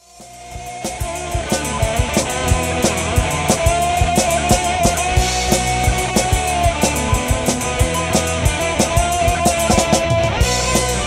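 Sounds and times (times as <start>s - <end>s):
rock music with drums and guitar: 0.0s - 11.0s.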